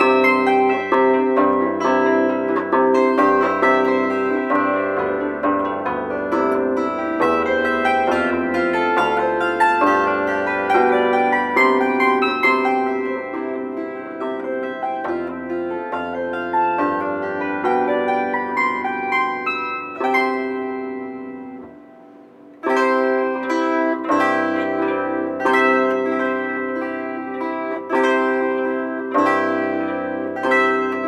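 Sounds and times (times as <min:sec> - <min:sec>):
plucked string instrument: 0:00.0 - 0:31.0.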